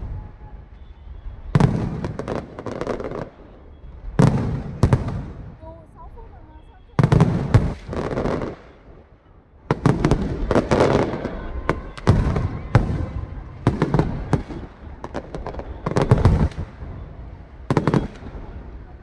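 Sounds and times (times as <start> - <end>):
fireworks bangs and booms: 0.0 - 19.0
fireworks crackling: 0.0 - 19.0.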